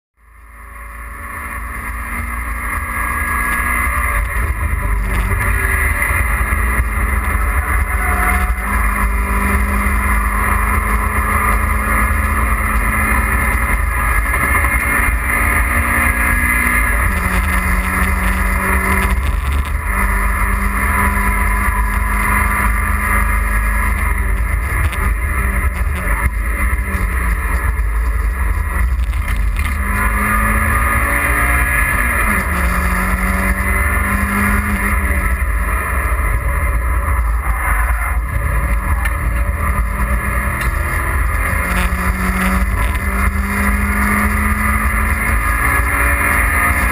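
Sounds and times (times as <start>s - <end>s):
car engine running hard: 0.2s - 46.9s
road and wind noise: 0.2s - 46.9s.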